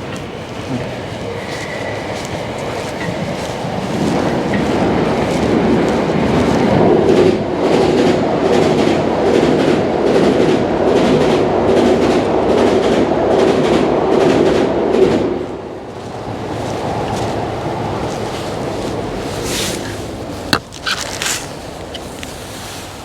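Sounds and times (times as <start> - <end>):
train wheels clacking: 0.0 - 22.4
train rumble: 0.0 - 23.0.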